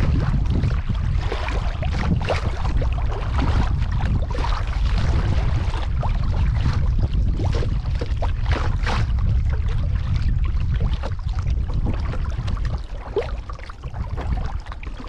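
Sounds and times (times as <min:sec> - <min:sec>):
paddle blades splashing: 0:00.0 - 0:15.0
wind rumble on microphone: 0:00.0 - 0:15.0.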